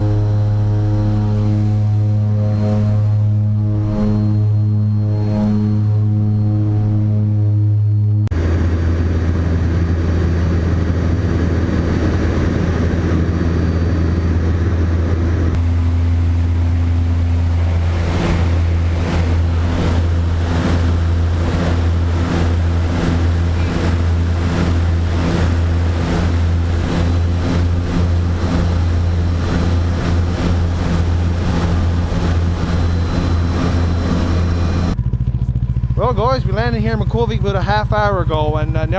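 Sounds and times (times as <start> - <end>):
snowmobile engine droning: 0.0 - 38.9.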